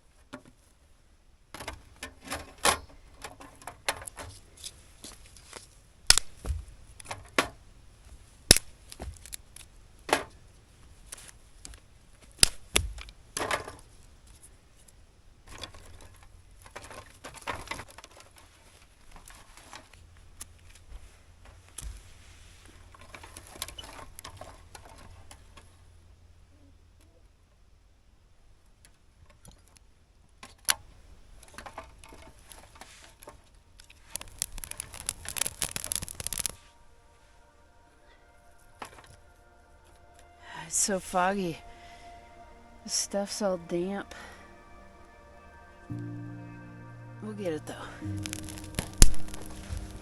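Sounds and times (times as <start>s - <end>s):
hands rustling gear: 1.6s - 25.7s, 30.8s - 46.1s, 47.4s - 50.0s.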